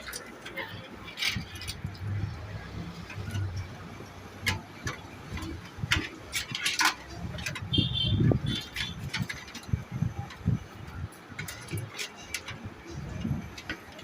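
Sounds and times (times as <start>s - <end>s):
computer parts clicking and knocking: 0.0s - 14.0s.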